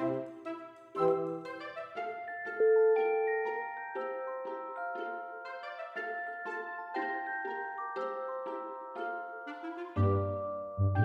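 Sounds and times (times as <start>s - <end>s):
gentle melody of ringing notes: 2.0s - 11.0s.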